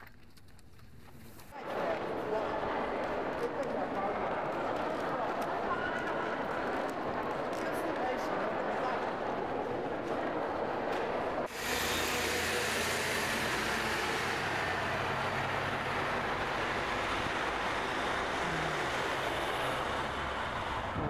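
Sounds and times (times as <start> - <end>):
indistinct crowd chatter: 1.5 - 21.0
bus engine rumble: 1.6 - 21.0
cars passing: 1.6 - 21.0.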